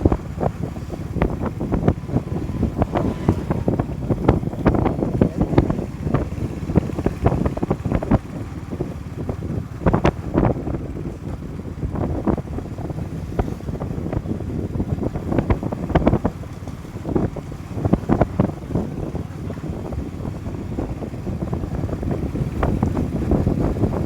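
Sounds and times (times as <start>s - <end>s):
motorcycle and road rumble: 0.0s - 24.0s
wind buffeting microphone: 0.0s - 24.0s.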